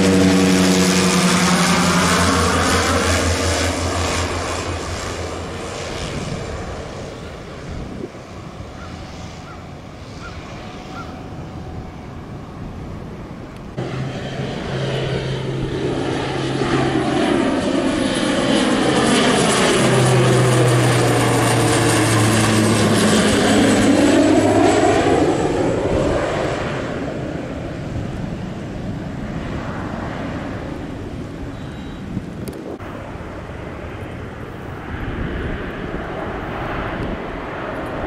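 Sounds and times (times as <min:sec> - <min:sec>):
turboprop plane passing overhead: 0:00.0 - 0:38.0.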